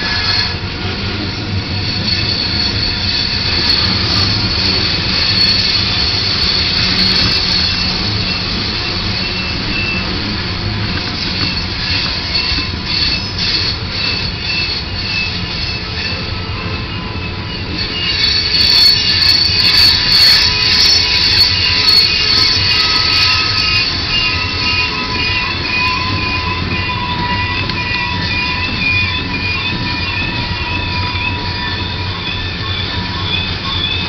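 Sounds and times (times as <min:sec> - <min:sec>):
freight train rolling past: 0:00.0 - 0:34.0
train wheels squealing: 0:00.0 - 0:34.0.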